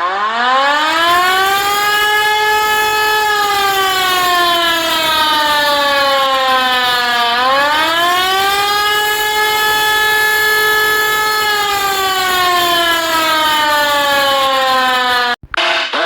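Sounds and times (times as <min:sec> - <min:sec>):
civil defense siren wailing: 0:00.0 - 0:15.4.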